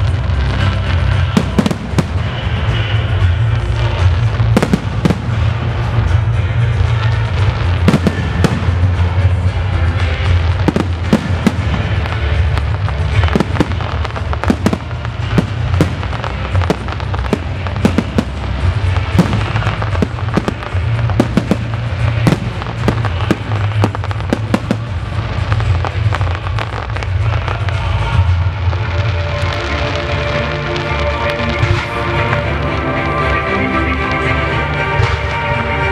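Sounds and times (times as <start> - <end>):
music playing: 0.0 - 35.9.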